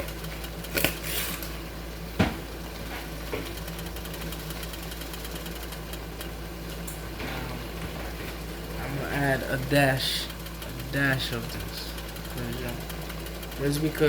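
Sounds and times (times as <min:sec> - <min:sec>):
fine rapid ticking: 0:00.0 - 0:14.0
kitchen hum: 0:00.0 - 0:14.0.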